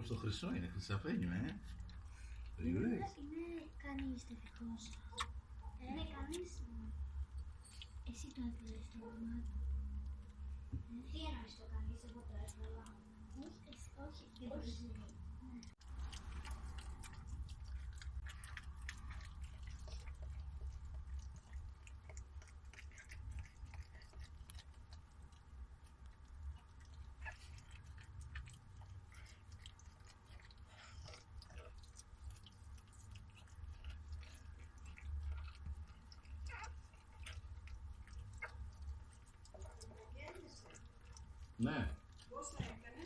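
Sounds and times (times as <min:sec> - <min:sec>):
dog licking and chewing: 0:00.0 - 0:43.0.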